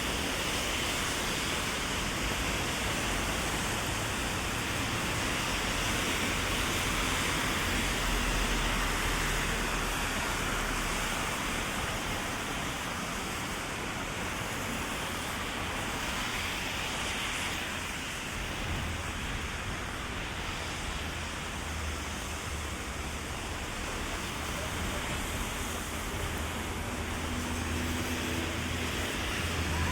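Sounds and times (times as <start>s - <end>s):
heavy rain hissing: 0.0s - 29.9s.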